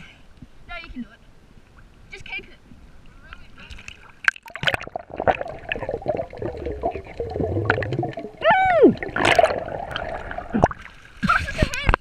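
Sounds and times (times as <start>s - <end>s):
water sloshing and gurgling: 1.4s - 12.0s.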